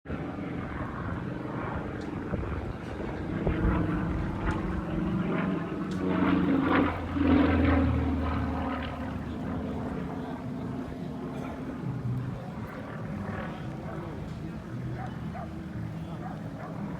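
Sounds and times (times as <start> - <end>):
propeller airplane droning overhead: 0.1 - 16.9.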